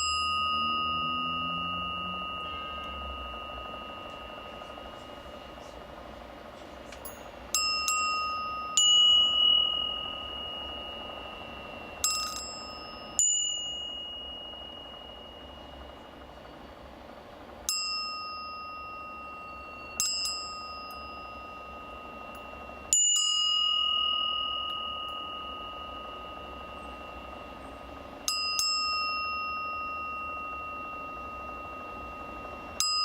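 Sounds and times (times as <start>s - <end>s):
bell struck with bright clang: 0.0s - 16.0s, 17.7s - 33.0s.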